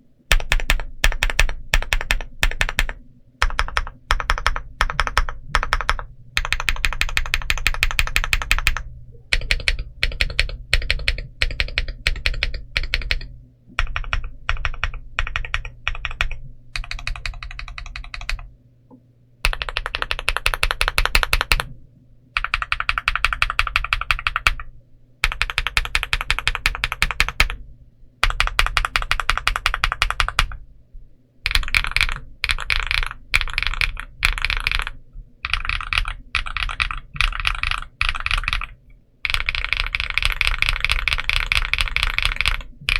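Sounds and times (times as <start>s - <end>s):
mechanical keyboard typing: 0.3s - 18.5s, 19.4s - 21.7s, 22.4s - 27.6s, 28.2s - 30.6s, 31.5s - 42.9s.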